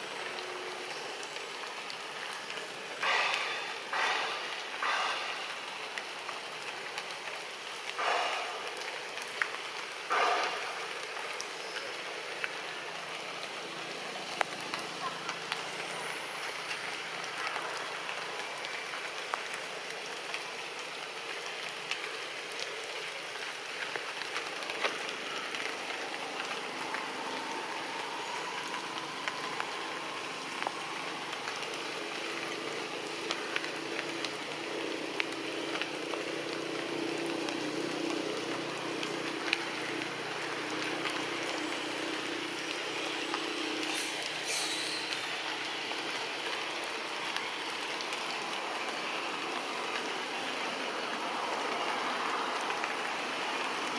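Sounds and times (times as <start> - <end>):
steady hiss with crackles: 0.0 - 53.9.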